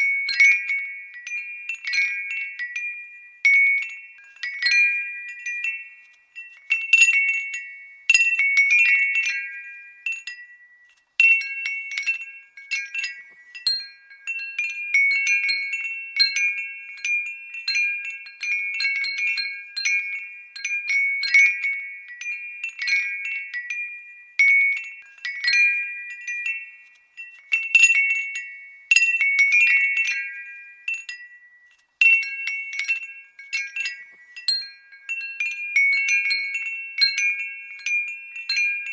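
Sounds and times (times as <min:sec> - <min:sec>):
glass wind bell jingling: 0:00.0 - 0:38.9.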